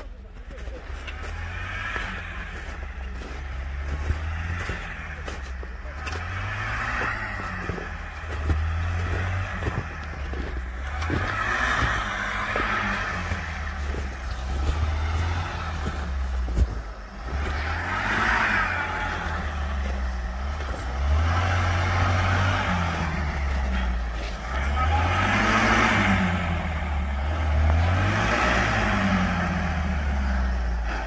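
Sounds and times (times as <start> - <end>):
engine labouring and revving: 0.0 - 31.0.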